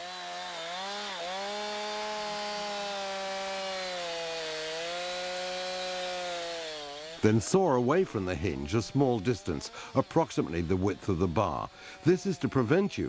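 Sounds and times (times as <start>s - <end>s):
chainsaw cutting into tree trunk: 0.0s - 13.0s.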